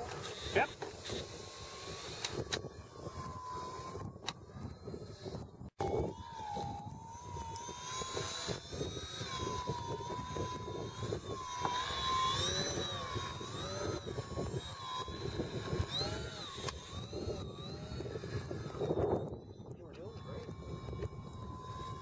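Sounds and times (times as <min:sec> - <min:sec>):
model plane motor whining: 0:00.0 - 0:22.0.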